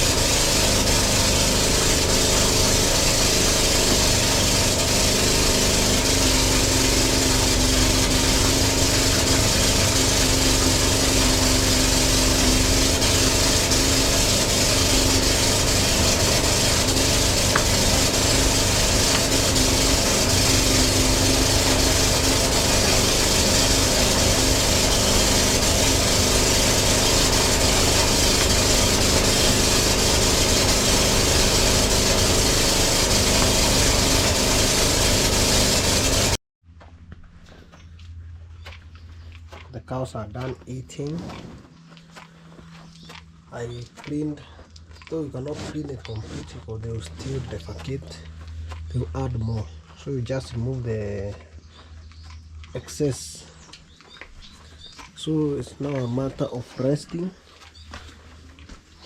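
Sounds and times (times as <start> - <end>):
chaff cutter machine drone: 0.0 - 37.0, 40.4 - 59.0.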